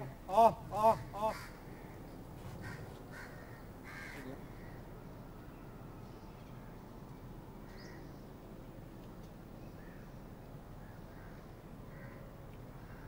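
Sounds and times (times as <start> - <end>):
steady low background hum: 0.0 - 13.0.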